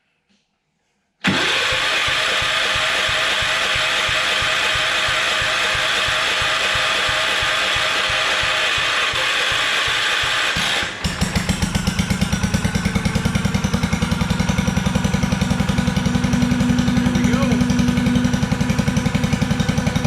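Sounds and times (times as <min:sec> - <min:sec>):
engine running: 0:01.2 - 0:20.0
engine starter cranking: 0:01.2 - 0:20.0.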